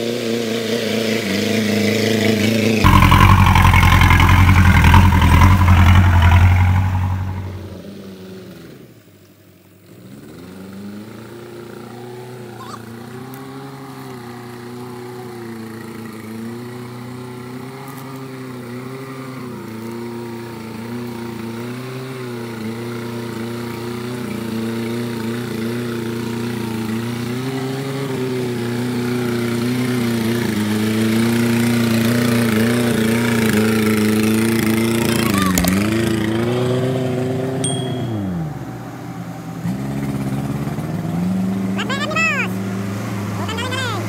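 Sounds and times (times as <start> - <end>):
off-road vehicle engine revving: 0.0 - 8.9, 9.8 - 44.0.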